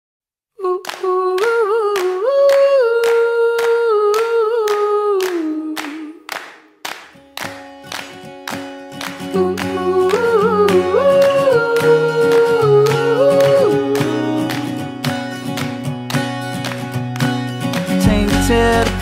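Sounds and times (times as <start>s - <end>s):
hands clapping: 0.8s - 19.0s.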